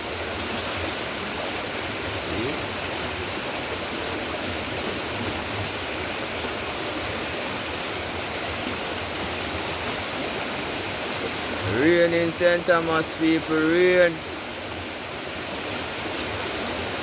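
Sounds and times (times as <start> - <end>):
heavy rain: 0.0 - 17.0
rushing rainwater: 0.0 - 17.0.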